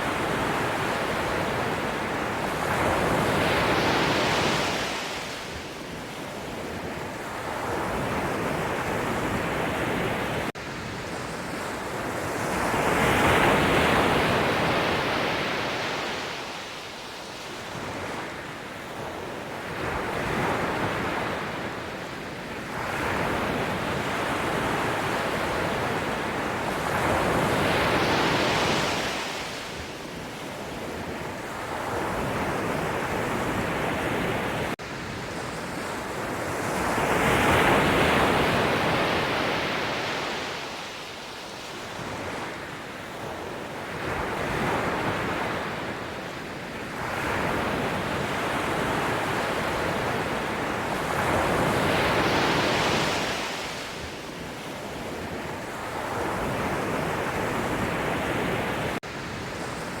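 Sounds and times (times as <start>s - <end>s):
sea waves breaking on shore: 0.0s - 60.0s.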